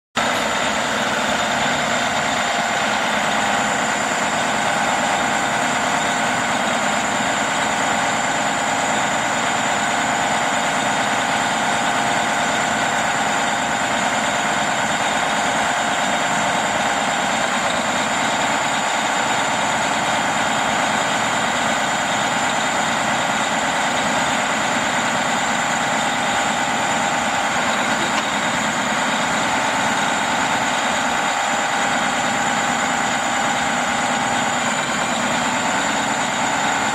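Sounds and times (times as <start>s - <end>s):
diesel truck engine idling: 0.2s - 36.9s
hydraulic whine: 0.2s - 36.9s.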